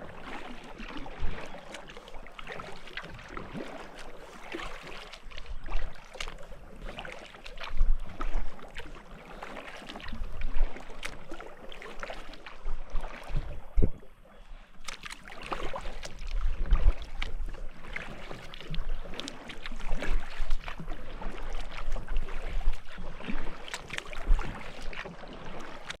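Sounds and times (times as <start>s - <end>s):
kayak paddle splashing in water: 0.0s - 26.0s.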